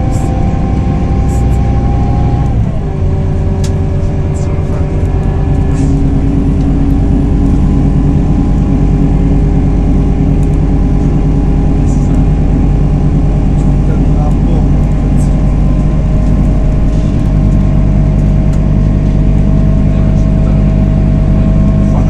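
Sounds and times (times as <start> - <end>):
bus diesel engine pulling: 0.0 - 22.0.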